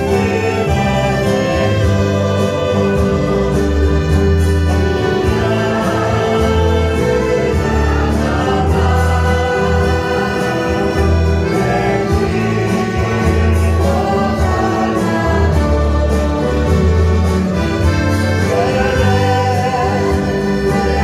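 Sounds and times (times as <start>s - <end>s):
accordion: 0.0s - 21.0s
acoustic guitars and mandolins: 0.0s - 21.0s
choir singing a hymn: 0.0s - 21.0s
saxophone: 0.0s - 21.0s
strong bass: 0.0s - 21.0s.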